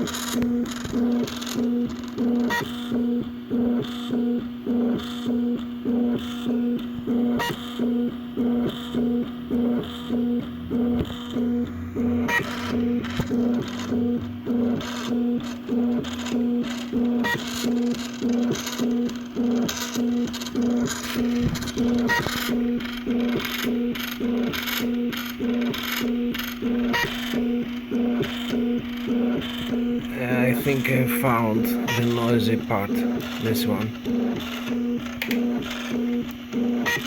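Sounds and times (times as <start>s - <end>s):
stepper motors humming: 0.0s - 37.0s.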